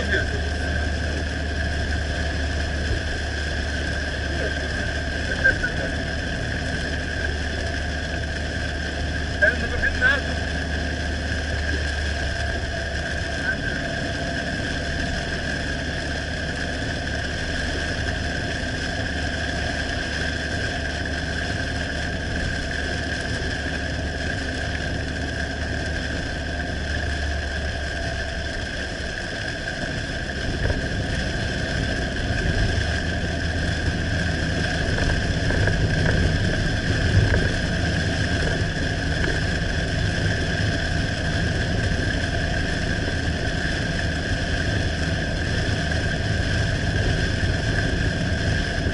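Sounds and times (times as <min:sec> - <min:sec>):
car driving on highway: 0:00.0 - 0:48.9.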